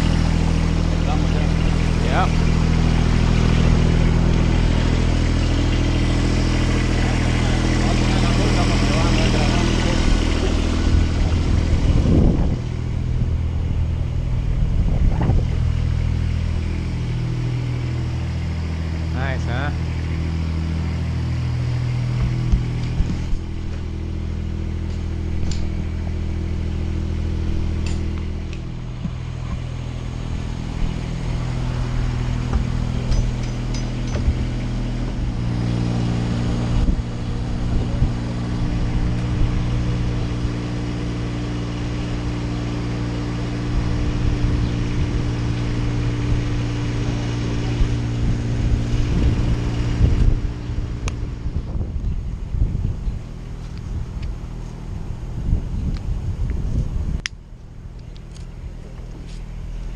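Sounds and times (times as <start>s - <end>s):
lift engine running: 0.0s - 59.9s.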